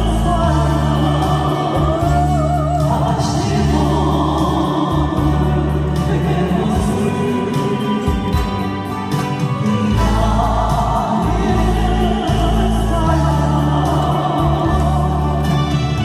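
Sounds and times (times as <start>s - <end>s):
live band playing: 0.0s - 16.0s
low bass notes: 0.0s - 16.0s
person singing: 0.0s - 16.0s.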